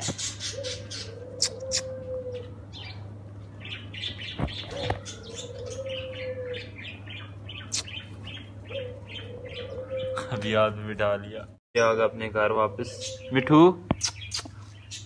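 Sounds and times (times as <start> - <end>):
birds chirping rapidly: 0.0 - 15.0
steady low hum: 0.0 - 15.0.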